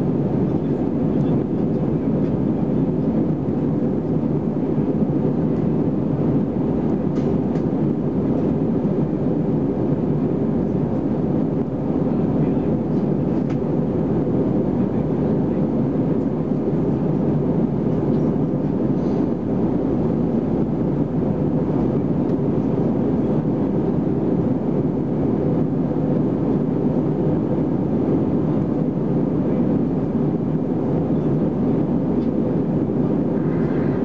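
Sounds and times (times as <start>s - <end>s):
airplane cabin roar: 0.0s - 34.0s
faint steady hum: 0.0s - 34.0s.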